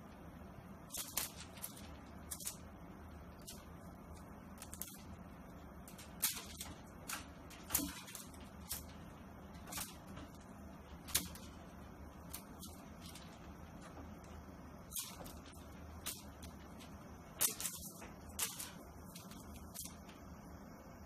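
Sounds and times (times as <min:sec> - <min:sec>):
low steady hum: 0:00.0 - 0:21.0
kitten claws scratching rope: 0:00.8 - 0:20.2.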